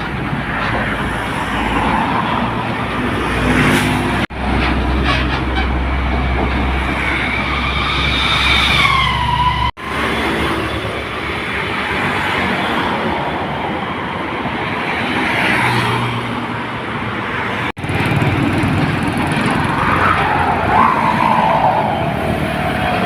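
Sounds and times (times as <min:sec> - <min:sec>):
truck engines running: 0:00.0 - 0:15.0, 0:16.2 - 0:23.0
tyre noise of passing vehicles: 0:00.0 - 0:23.0.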